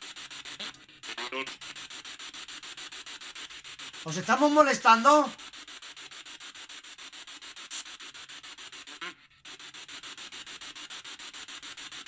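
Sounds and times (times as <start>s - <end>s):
rapid pulsing radio static: 0.0s - 12.0s.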